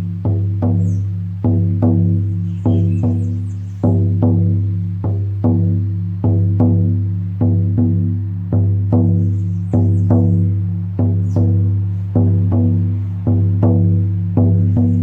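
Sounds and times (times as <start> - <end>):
frame drum heartbeat rhythm: 0.0 - 15.0.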